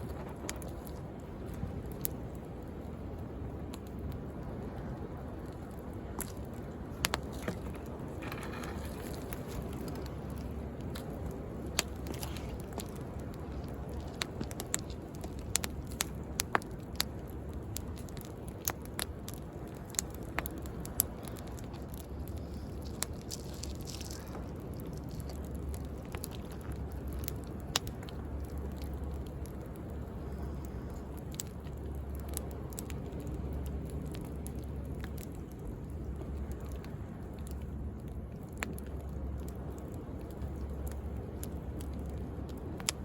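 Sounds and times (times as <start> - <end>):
wood bonfire crackling: 0.0 - 43.0.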